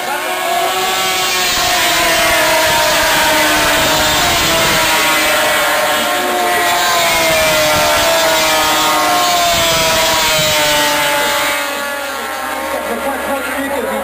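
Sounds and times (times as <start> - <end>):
snowmobile engines high whine: 0.0 - 14.0.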